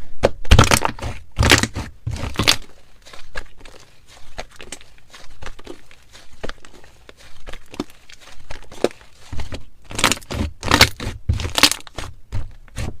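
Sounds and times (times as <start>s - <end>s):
slime and ice squeezed by hand: 0.5s - 12.1s.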